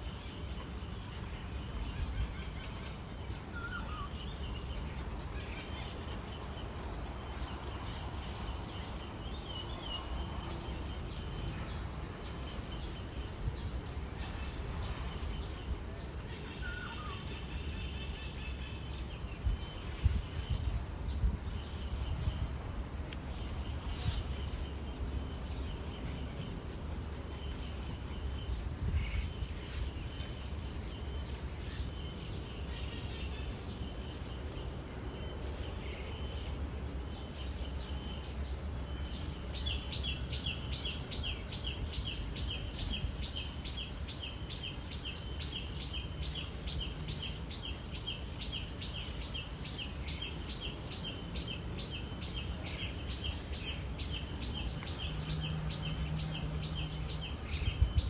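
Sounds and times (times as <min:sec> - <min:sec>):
cicadas droning: 0:00.0 - 0:58.0.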